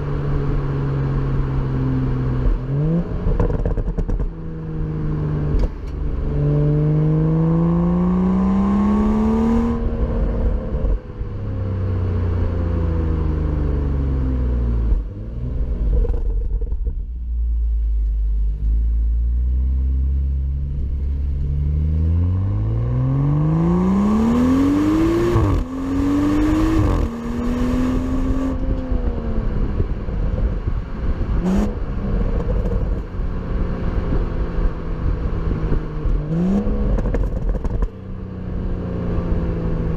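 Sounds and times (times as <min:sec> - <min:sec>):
car engine accelerating through gears: 0:01.1 - 0:17.1, 0:19.4 - 0:39.9.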